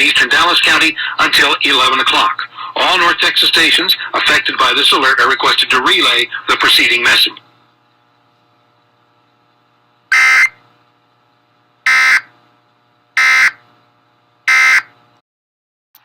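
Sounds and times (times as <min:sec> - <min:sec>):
faint steady hum: 0:00.0 - 0:15.2.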